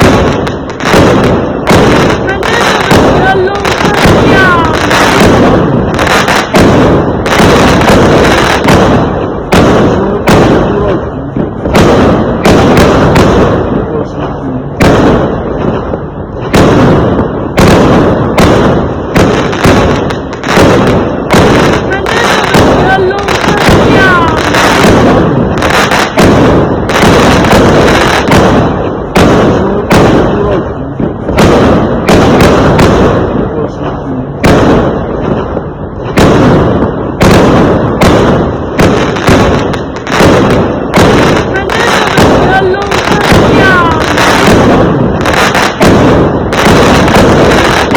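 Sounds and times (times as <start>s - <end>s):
fireworks exploding: 0.0s - 47.9s.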